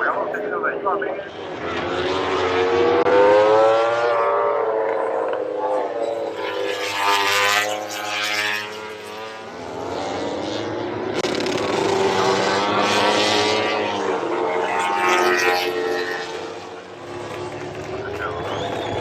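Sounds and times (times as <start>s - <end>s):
racing motorcycles passing: 1.1s - 19.0s.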